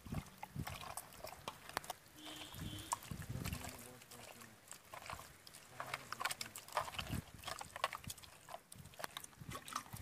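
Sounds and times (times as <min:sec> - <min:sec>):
wet squelching and sloshing: 0:00.0 - 0:10.0.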